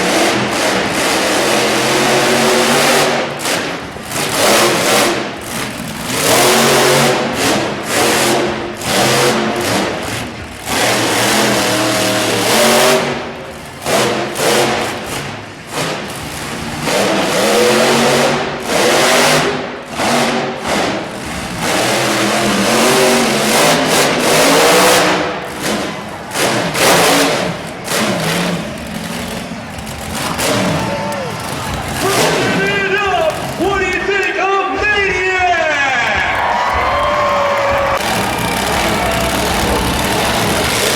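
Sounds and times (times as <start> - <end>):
monster truck engine revving: 0.0 - 34.4, 36.3 - 40.9.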